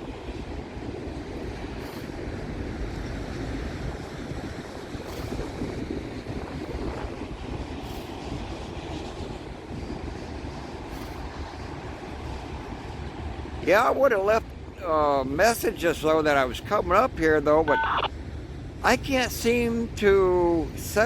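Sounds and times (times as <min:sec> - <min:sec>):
train wheels rumbling on rail: 0:00.0 - 0:17.6.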